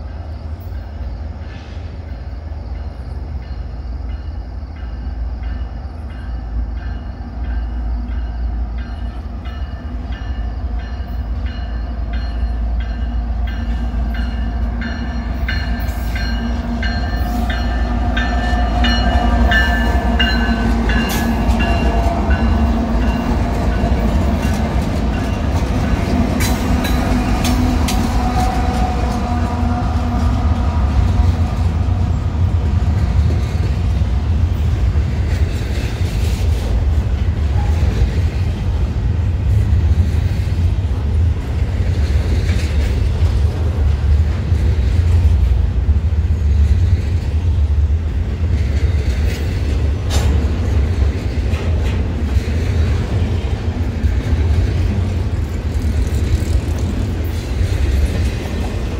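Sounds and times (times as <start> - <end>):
freight train passing: 0.0 - 58.9.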